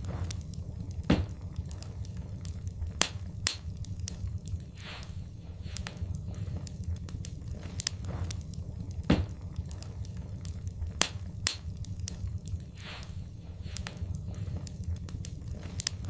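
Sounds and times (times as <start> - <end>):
fire flames rumbling: 0.0 - 16.0
wood fire crackling and popping: 0.0 - 16.0.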